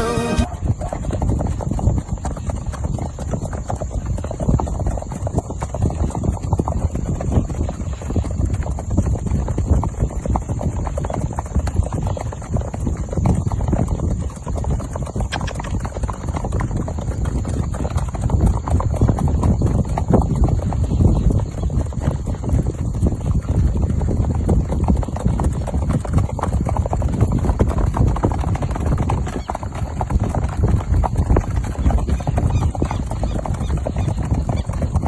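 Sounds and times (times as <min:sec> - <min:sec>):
horse hoofbeats: 0:00.0 - 0:35.0.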